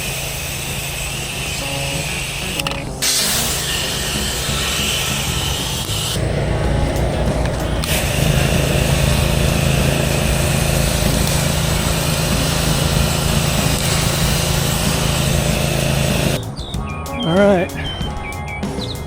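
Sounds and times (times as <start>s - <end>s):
small engine running: 0.0s - 16.6s
water spray hissing: 0.0s - 16.6s.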